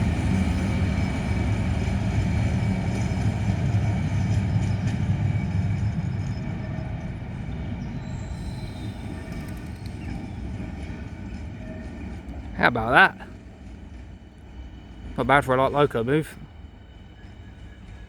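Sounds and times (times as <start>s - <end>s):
locomotive diesel engines droning: 0.0s - 18.0s.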